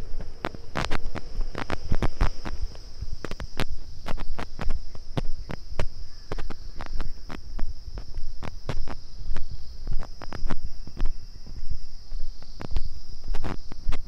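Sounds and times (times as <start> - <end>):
footsteps on stony ground: 0.0 - 14.0
steady high-pitched buzz: 0.0 - 14.0.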